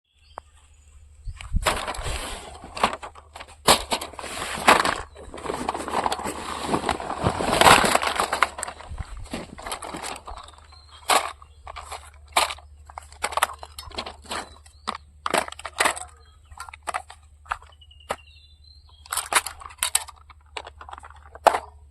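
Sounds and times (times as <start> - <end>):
crinkling and crunching: 0.3 - 21.9.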